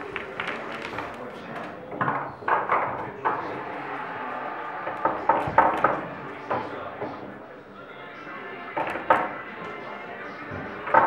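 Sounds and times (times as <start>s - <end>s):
background chatter: 0.0s - 11.0s.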